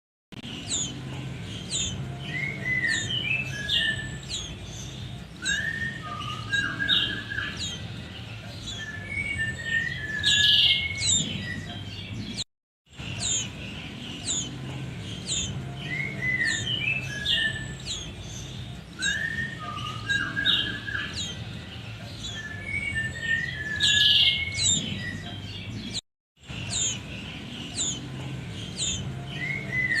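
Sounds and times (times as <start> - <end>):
bird chirping and whistling: 0.4 - 8.0, 8.6 - 12.4, 13.0 - 21.6, 22.2 - 26.0, 26.6 - 30.0
steady low hum: 0.4 - 23.7, 24.3 - 30.0.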